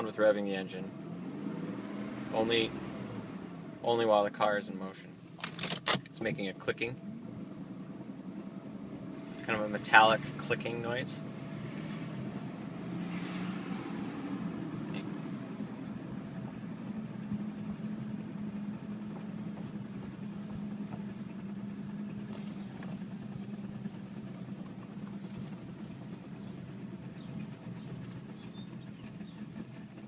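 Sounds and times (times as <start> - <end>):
vehicle low drone: 0.0 - 30.0.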